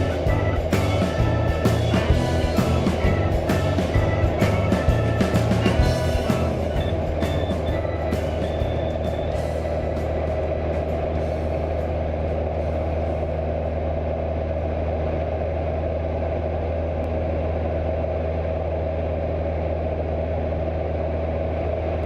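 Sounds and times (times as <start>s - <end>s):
small plane engine droning: 0.0s - 22.0s.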